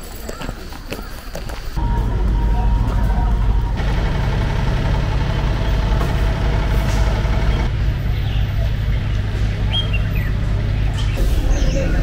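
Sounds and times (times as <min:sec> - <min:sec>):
truck engine idling: 0:01.8 - 0:12.0.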